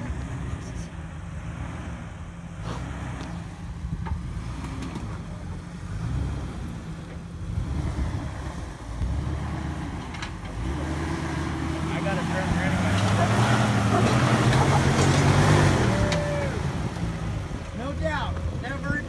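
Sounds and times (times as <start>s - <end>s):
engine droning at low revs: 0.0s - 19.0s.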